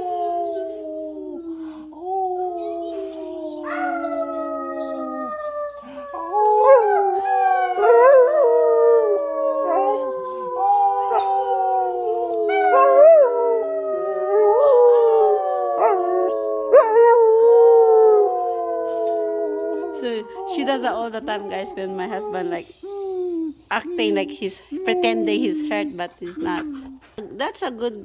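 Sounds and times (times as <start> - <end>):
dog howling: 0.0 - 27.0.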